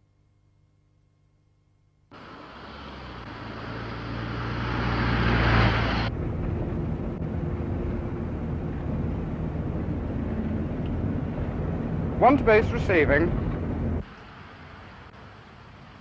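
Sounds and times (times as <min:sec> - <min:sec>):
car passing on road: 0:02.1 - 0:16.0
engine and road drone inside car: 0:02.1 - 0:16.0.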